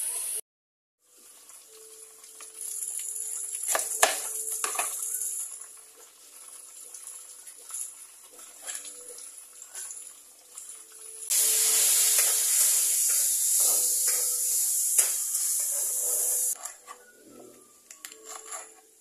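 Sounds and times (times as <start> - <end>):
water running from tap: 1.1 - 16.6.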